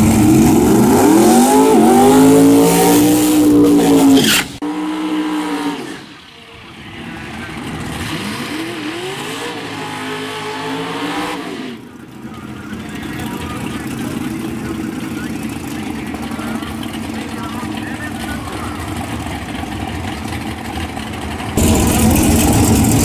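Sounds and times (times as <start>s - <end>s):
racing car engines at full throttle: 0.0s - 23.0s.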